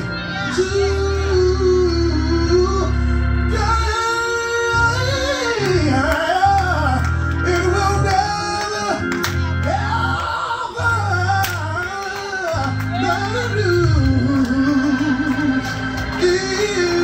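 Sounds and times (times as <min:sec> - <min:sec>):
held bass notes: 0:00.0 - 0:17.0
person singing gospel song: 0:00.0 - 0:17.0.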